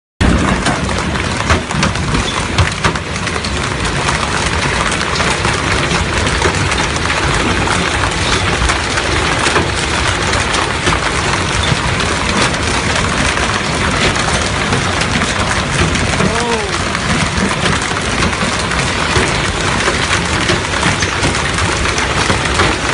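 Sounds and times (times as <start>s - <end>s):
heavy rain on hard surfaces: 0.2s - 22.9s.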